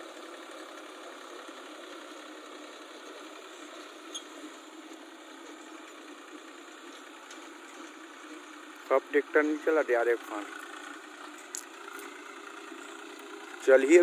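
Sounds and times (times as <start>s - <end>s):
diesel tractor engine running: 0.0s - 14.0s.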